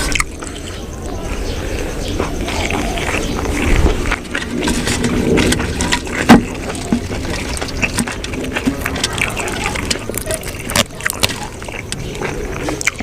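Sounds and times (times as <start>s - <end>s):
chewing and wet mouth sounds: 0.0s - 13.0s.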